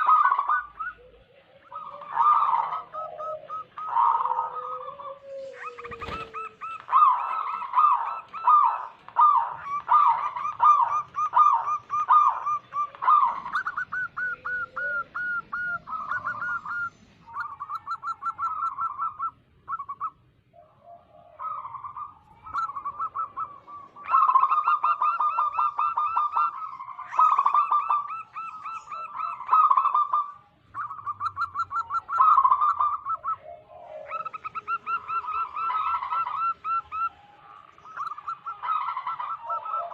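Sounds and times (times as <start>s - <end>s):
doves cooing in trills: 0.0s - 39.9s.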